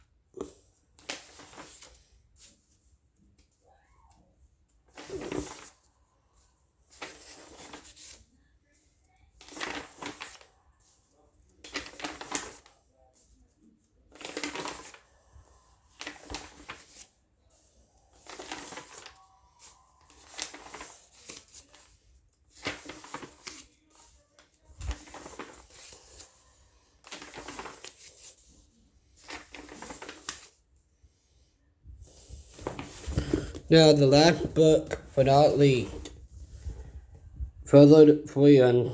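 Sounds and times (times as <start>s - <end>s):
paper pages turning: 0.5s - 4.3s, 4.9s - 5.9s, 6.8s - 8.4s, 9.0s - 30.6s, 32.0s - 37.2s.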